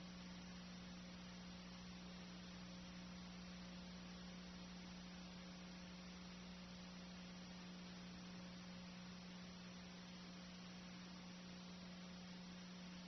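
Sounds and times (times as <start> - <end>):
faint hiss: 0.0 - 13.0
low electrical hum: 0.0 - 13.0.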